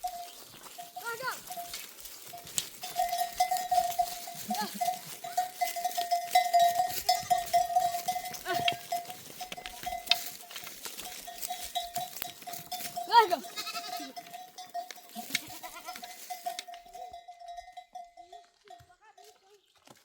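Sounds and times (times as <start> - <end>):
animal neck bells clanking: 0.0 - 19.7
goats bleating: 2.5 - 19.3.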